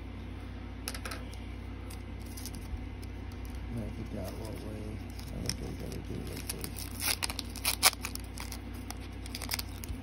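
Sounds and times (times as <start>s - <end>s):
foil wrapper crinkling and tearing: 1.8s - 10.0s.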